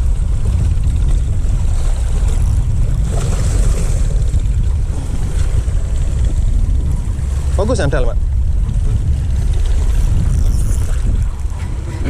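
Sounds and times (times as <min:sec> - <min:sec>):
sea waves washing: 0:00.0 - 0:12.0
wind buffeting microphone: 0:00.0 - 0:12.0.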